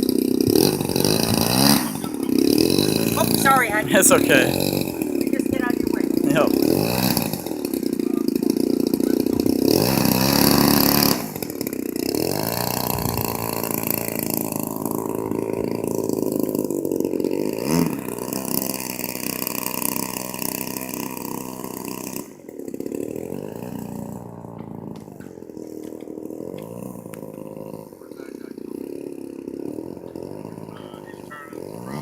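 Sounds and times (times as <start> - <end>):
model airplane engine running: 0.0 - 3.8, 4.5 - 32.0.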